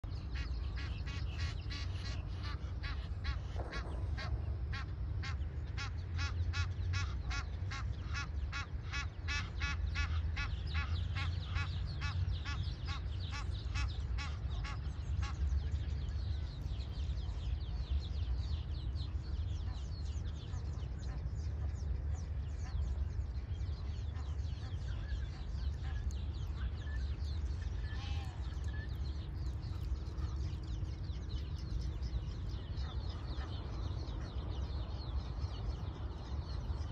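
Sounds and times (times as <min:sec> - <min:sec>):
birds calling: 0:00.0 - 0:36.9
steady low rumble: 0:00.0 - 0:36.9.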